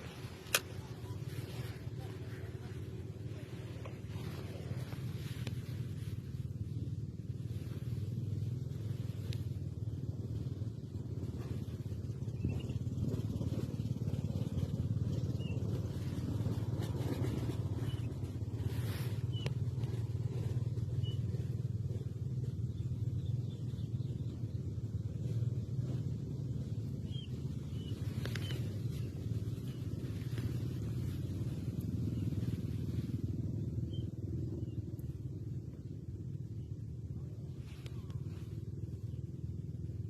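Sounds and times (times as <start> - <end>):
boat engine droning: 0.0 - 36.5.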